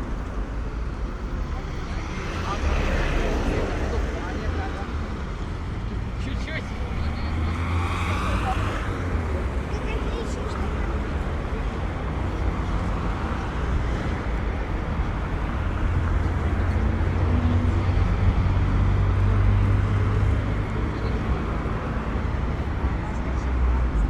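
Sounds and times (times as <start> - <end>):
vehicles passing with tyre noise: 0.0 - 24.0.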